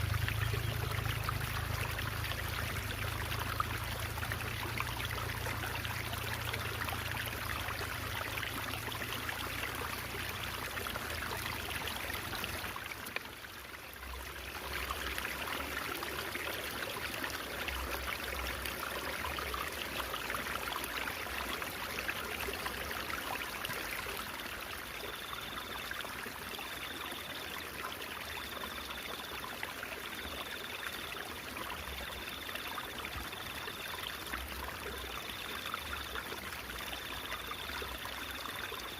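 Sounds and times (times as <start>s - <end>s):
water gurgling and trickling: 0.0s - 38.9s.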